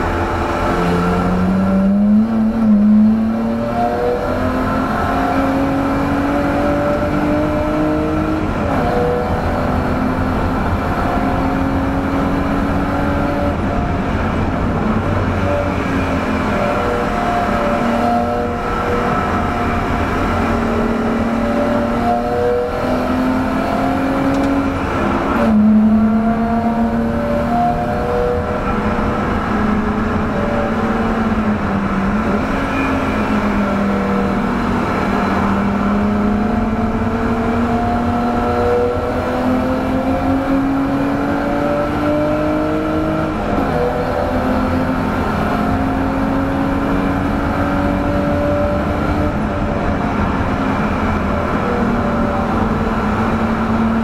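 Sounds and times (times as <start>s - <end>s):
car engine accelerating: 0.0s - 54.0s
tyre and road noise: 0.0s - 54.0s.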